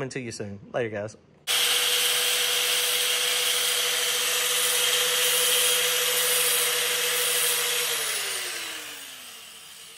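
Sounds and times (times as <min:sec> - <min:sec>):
angle grinder whining: 0:01.5 - 0:09.9.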